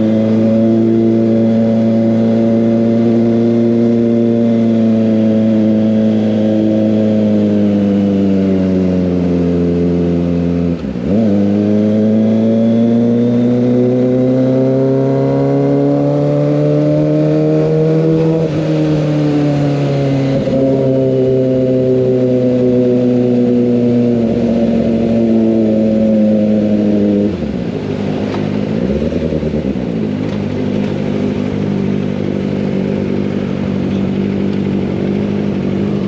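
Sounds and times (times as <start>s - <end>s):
motorcycle engine slowing: 0.0s - 36.0s.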